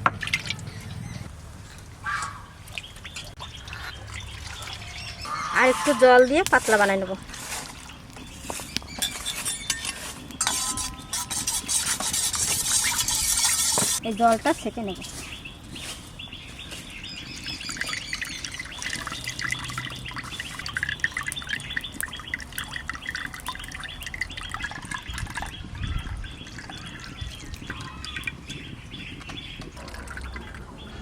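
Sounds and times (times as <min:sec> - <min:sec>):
small birds chirping: 0:00.3 - 0:31.0.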